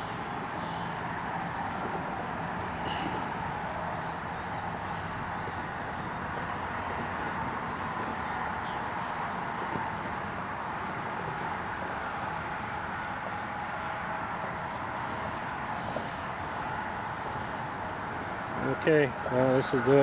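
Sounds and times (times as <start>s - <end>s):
faint steady hum: 0.0s - 20.0s
outdoor rumble and hiss: 0.0s - 20.0s.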